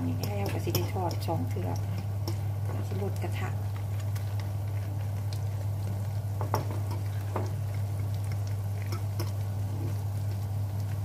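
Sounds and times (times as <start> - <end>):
patty sizzling in oil: 0.0 - 11.0
steady low hum: 0.0 - 11.0.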